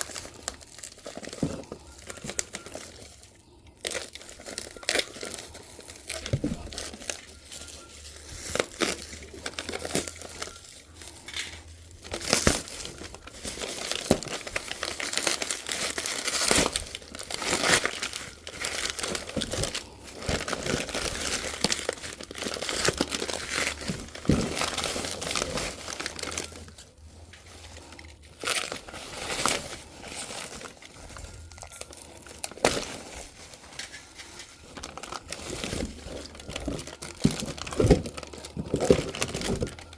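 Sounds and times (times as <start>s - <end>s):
plastic wrapping crinkling and tearing: 0.0s - 39.9s.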